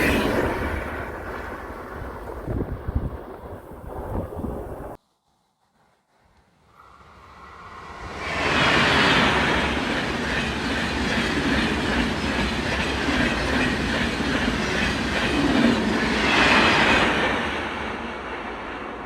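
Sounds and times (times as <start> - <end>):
train passing on rails: 0.0 - 5.0, 6.6 - 19.0.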